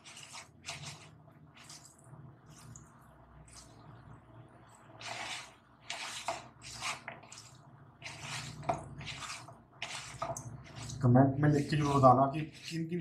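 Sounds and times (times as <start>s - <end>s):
batter squelching as mixed: 0.0s - 13.0s.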